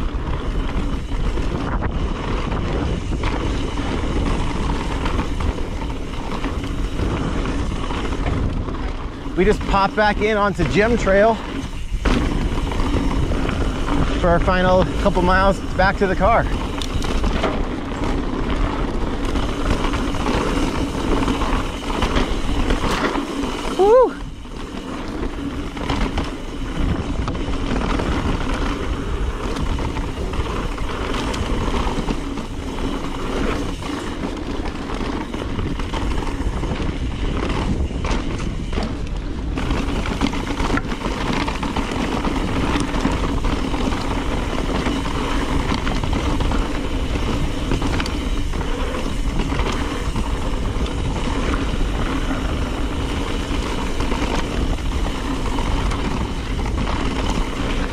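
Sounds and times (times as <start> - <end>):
bike rattles and clicks: 0.0 - 57.9
bike tyres rolling on dirt: 0.0 - 57.9
wind rushing over microphone: 0.0 - 57.9.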